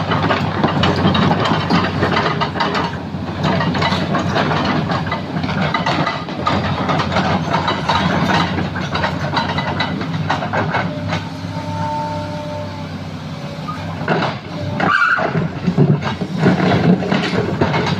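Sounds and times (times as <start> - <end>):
knocks and clatter: 0.0 - 11.6, 13.8 - 17.9
heavy diesel machinery running: 0.0 - 17.9.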